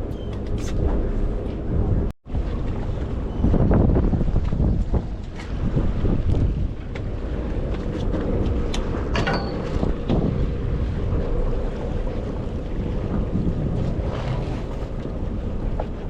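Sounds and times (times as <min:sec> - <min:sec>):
low steady rumble: 0:00.0 - 0:16.0
wind buffeting microphone: 0:00.0 - 0:16.0.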